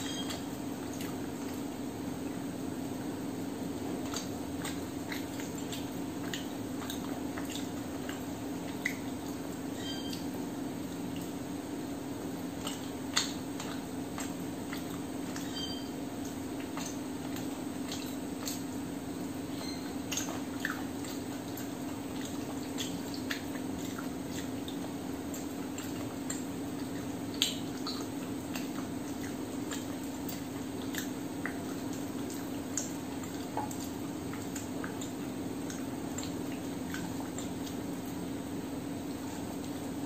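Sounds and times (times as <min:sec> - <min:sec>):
wet chewing and mouth smacks: 0:00.0 - 0:02.5, 0:03.7 - 0:11.4, 0:12.4 - 0:38.3.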